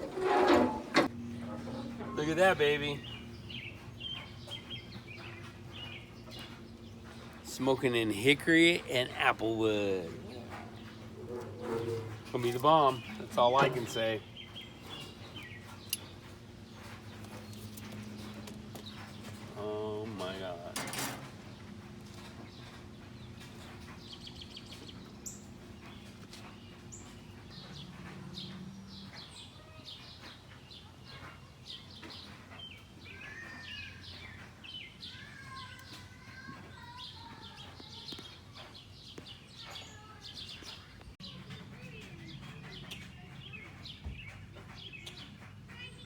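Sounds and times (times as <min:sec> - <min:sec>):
songbirds chirping and singing: 0:00.0 - 0:46.0.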